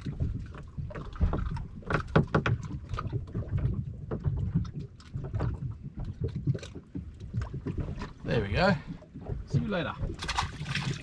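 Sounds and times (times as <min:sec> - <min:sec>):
knocks and clicks of fish handling: 0:00.0 - 0:11.0.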